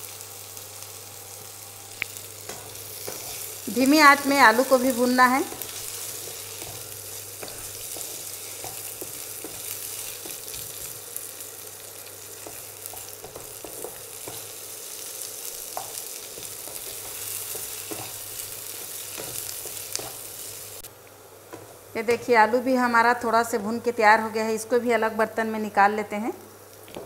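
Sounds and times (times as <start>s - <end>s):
potatoes sizzling in oil: 0.0s - 27.0s.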